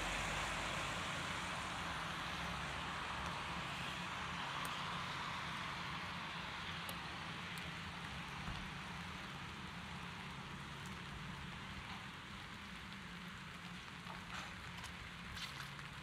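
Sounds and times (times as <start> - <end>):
heavy rain on street: 0.0 - 16.0.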